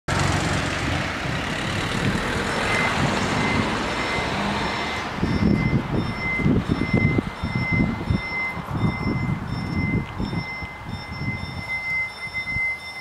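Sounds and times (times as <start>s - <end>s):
road vehicle noise: 0.1s - 13.0s
level crossing warning bells: 2.4s - 13.0s.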